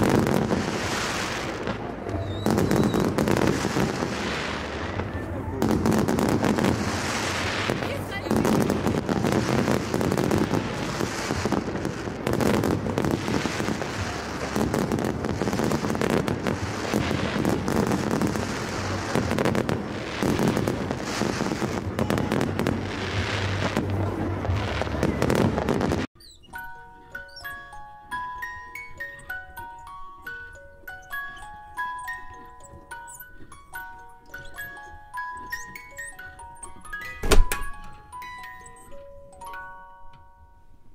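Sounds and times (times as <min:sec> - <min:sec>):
fireworks crackling and banging: 0:00.0 - 0:27.5, 0:28.2 - 0:38.9
light chiming melody: 0:00.0 - 0:40.9
music: 0:00.0 - 0:40.9.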